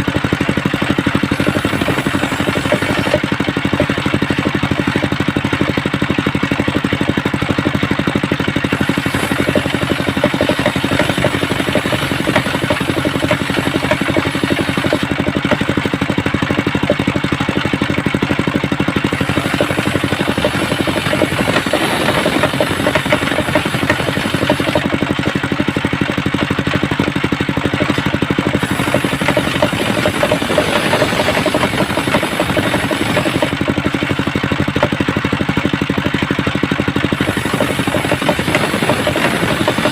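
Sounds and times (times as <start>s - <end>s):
circular saw cutting wood: 0.0s - 5.6s, 8.0s - 35.0s, 37.0s - 39.9s.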